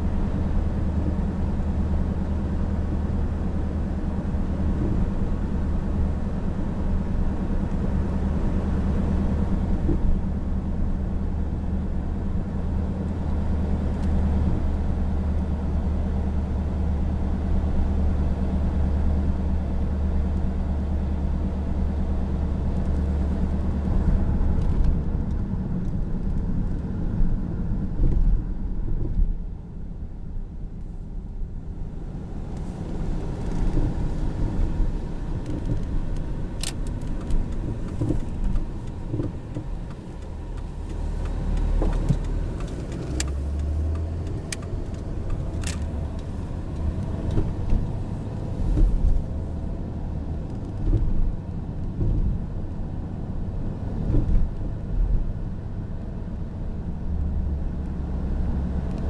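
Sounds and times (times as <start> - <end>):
engine and tyre drone: 0.0 - 59.0.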